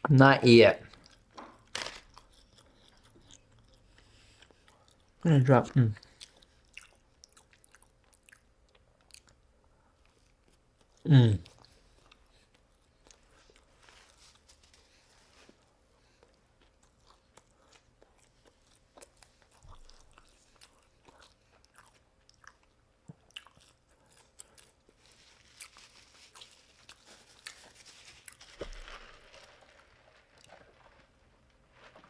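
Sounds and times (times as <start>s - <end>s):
chewing crunchy food: 0.8s - 5.2s, 6.0s - 32.0s.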